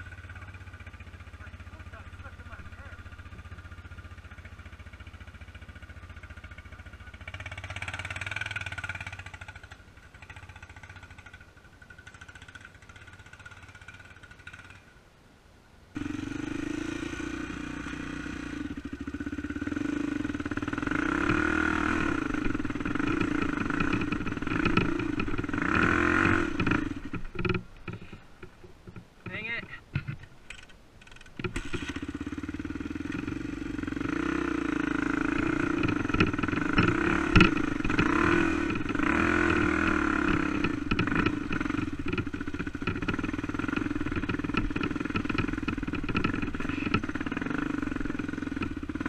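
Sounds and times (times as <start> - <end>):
dirt bike engine running: 0.0 - 14.9, 16.0 - 49.0.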